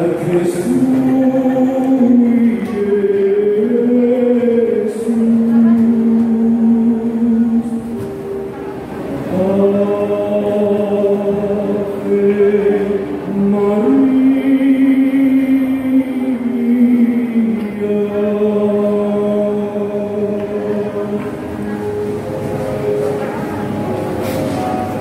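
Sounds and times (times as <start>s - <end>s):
slow choral singing: 0.0s - 25.0s.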